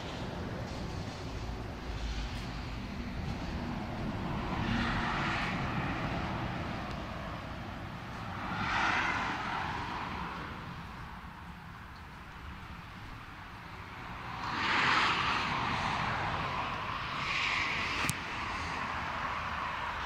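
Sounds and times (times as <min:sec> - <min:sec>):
traffic rumble: 0:00.0 - 0:20.0
vehicles passing by: 0:00.0 - 0:20.0.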